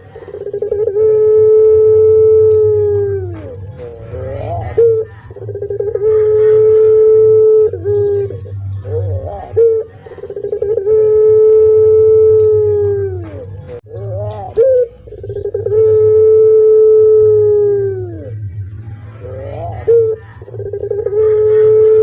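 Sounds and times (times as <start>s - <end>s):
dove cooing: 0.0s - 22.0s
steady low hum: 0.0s - 22.0s.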